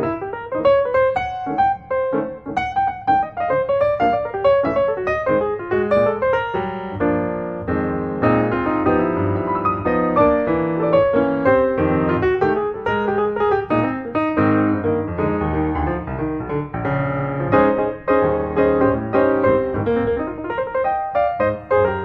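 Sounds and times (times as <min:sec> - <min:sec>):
piano piece: 0:00.0 - 0:22.0.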